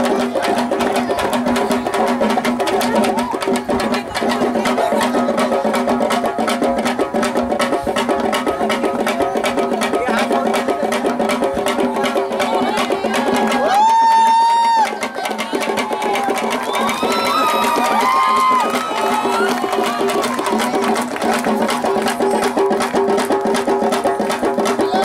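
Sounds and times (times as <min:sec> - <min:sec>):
fast drum strokes: 0:00.0 - 0:25.0.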